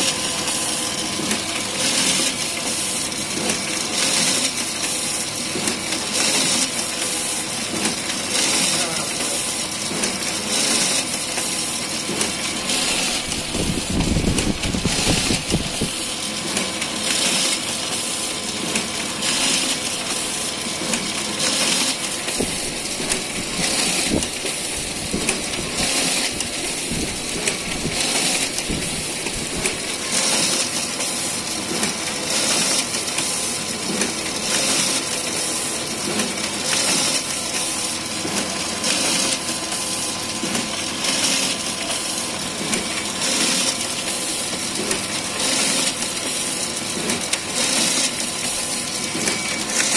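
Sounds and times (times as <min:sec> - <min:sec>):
photocopier whirring and clattering: 0:00.0 - 0:49.9.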